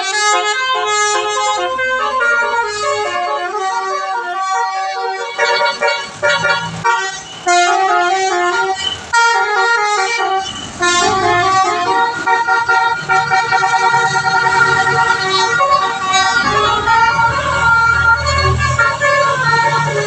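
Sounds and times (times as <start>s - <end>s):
musical air horn tune: 0.0s - 20.0s.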